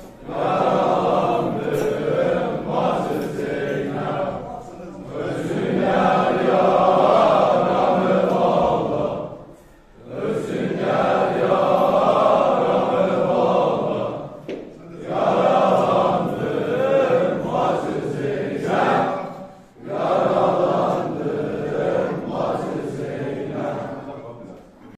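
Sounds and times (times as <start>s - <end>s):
group of men chanting: 0.1s - 24.1s.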